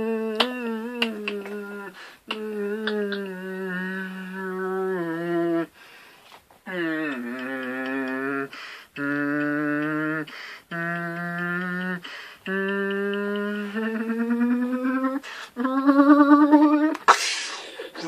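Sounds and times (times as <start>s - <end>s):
man humming held notes: 0.0s - 5.7s, 6.7s - 17.0s.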